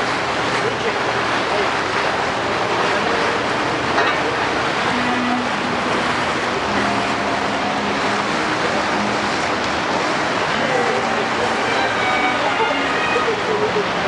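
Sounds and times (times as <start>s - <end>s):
boat engine: 0.0s - 14.0s
boat wind and water rushing: 0.0s - 14.0s.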